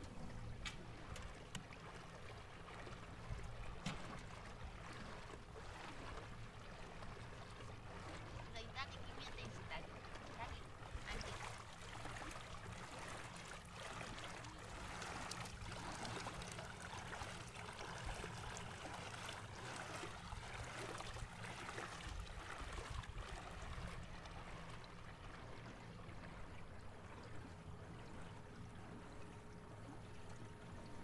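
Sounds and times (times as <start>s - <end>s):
low steady rumble: 0.0s - 31.0s
water splashing along boat hull: 0.0s - 31.0s.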